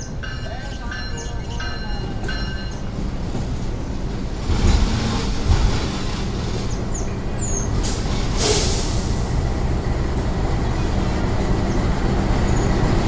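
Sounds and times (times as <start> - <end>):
diesel locomotive engine rumbling: 0.0 - 13.0
train wheels on rails: 0.0 - 13.0.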